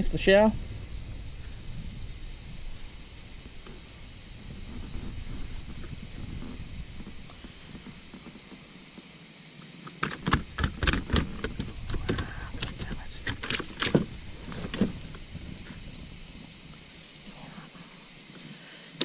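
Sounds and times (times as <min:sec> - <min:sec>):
steady low rumble: 0:00.0 - 0:09.3, 0:10.4 - 0:18.3.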